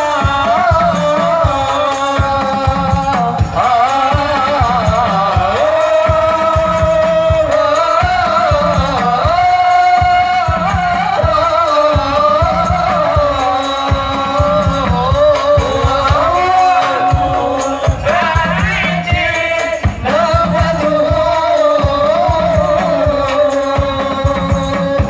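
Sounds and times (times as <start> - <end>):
hand drums beating: 0.0 - 25.0
man singing over loudspeakers: 0.0 - 25.0.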